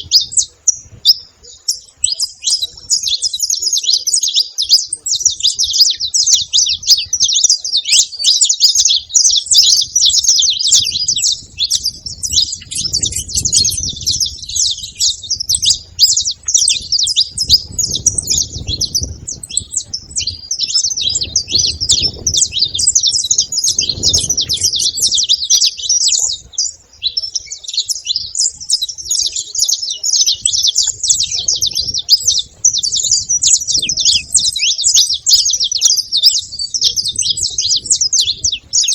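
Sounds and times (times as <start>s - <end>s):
finches chirping and singing: 0.0s - 38.9s.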